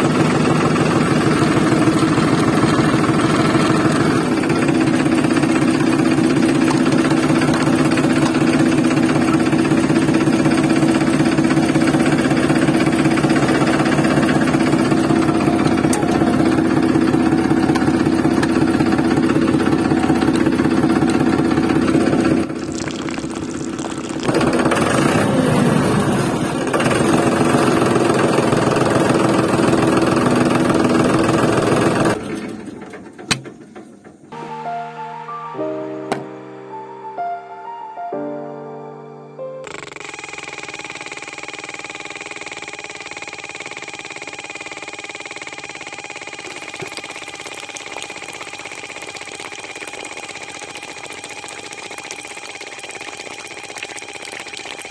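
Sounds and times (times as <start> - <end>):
motor humming: 0.0 - 32.2, 39.6 - 54.9.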